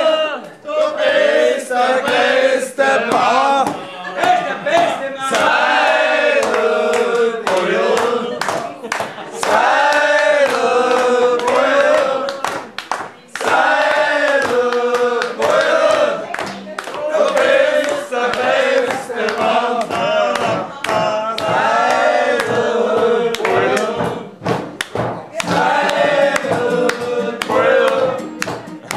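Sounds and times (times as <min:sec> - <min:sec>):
men singing together: 0:00.0 - 0:12.8, 0:13.4 - 0:24.5, 0:25.4 - 0:28.9.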